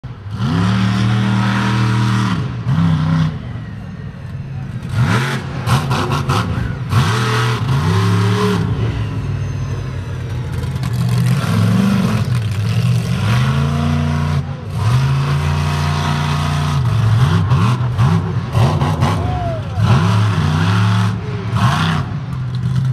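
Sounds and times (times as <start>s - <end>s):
monster truck engine revving: 0.1s - 22.9s.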